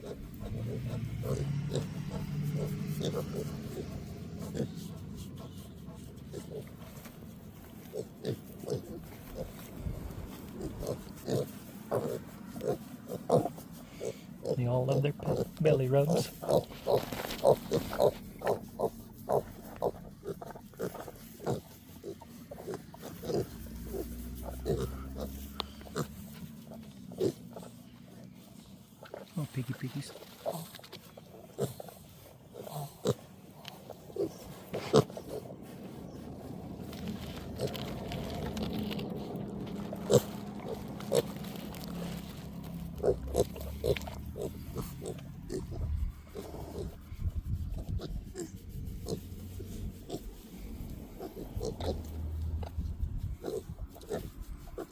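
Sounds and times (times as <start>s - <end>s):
pigs grunting: 0.0s - 7.0s, 7.8s - 47.2s, 47.8s - 54.9s.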